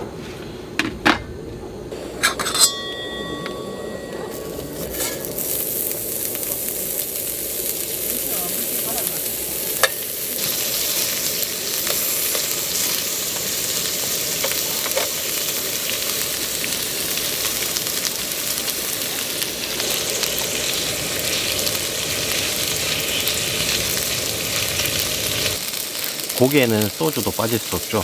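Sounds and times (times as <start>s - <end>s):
pork sizzling and spitting fat: 4.3s - 28.0s.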